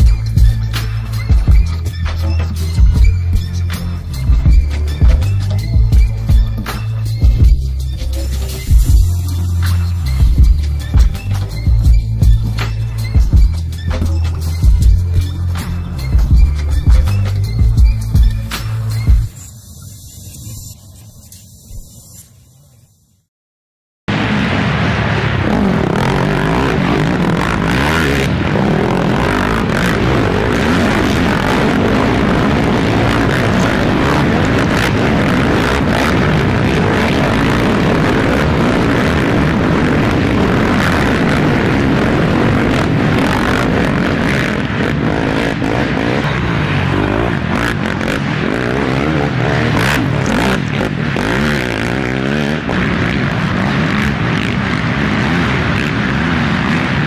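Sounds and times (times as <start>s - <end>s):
racing quad engines revving: 0.0s - 19.3s, 25.3s - 57.0s.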